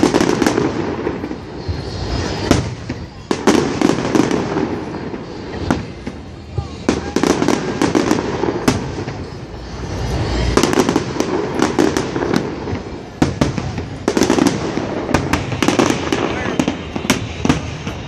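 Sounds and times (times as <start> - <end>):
deep fireworks boom: 0.0 - 18.0
fireworks bangs and cracks: 0.0 - 18.0.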